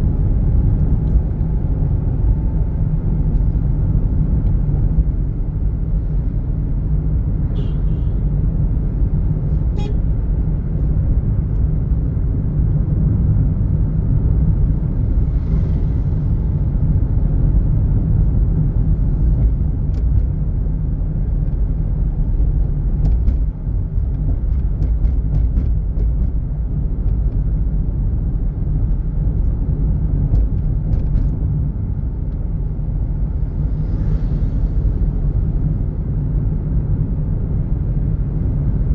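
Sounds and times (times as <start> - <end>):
vehicle road and engine rumble: 0.0 - 38.9.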